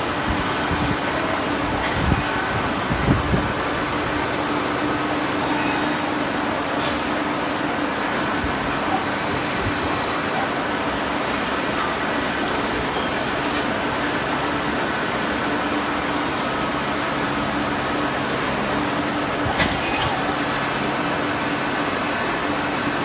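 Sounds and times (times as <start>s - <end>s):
lathe machine hum: 0.0s - 19.5s, 20.1s - 23.0s.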